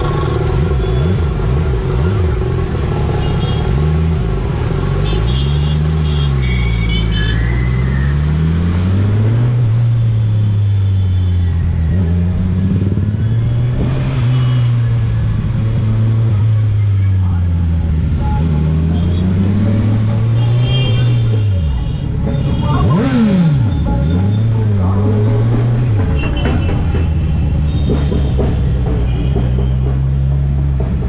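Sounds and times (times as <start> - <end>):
motorcycle engine revving: 0.0 - 21.4, 22.2 - 31.0.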